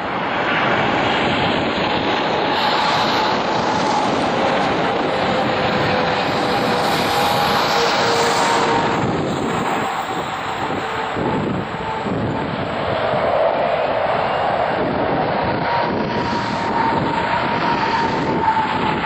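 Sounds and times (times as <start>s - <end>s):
jet engine roar with whining tones: 0.0s - 19.0s.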